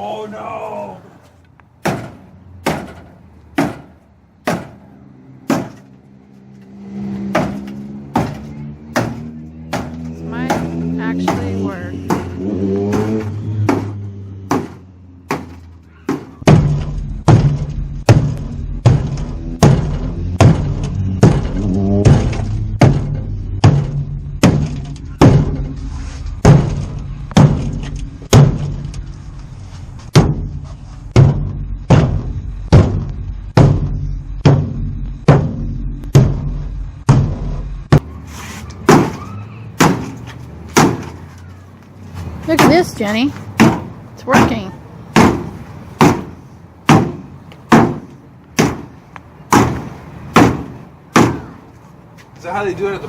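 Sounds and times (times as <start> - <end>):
sledgehammer striking steel frame: 1.8 - 5.9, 7.3 - 29.0, 30.0 - 38.1, 38.8 - 41.2, 42.5 - 51.6.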